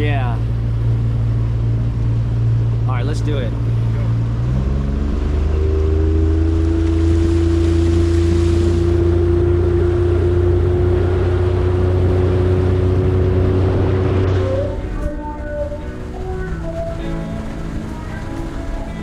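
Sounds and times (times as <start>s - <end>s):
outboard motor running: 0.0s - 19.0s
wind and water rush: 0.0s - 19.0s.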